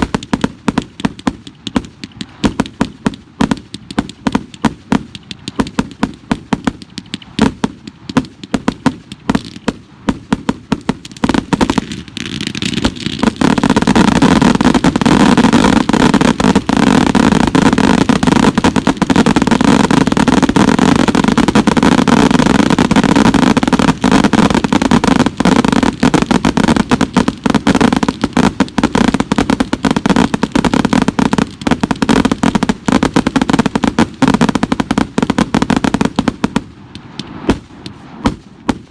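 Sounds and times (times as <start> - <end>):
fireworks cracking and popping: 0.0 - 38.9.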